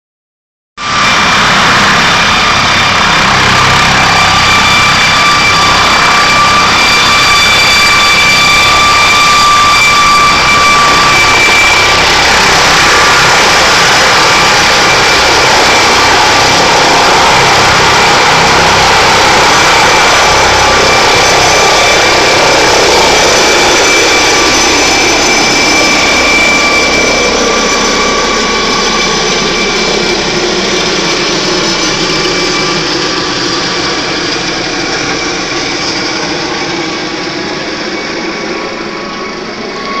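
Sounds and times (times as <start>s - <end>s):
helicopter rotor noise: 0.8s - 40.0s
helicopter turbine whine: 0.8s - 40.0s.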